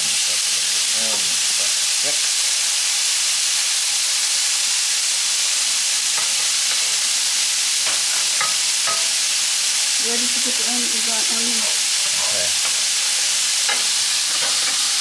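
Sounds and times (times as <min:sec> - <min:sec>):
garlic sizzling in oil: 0:00.0 - 0:15.0.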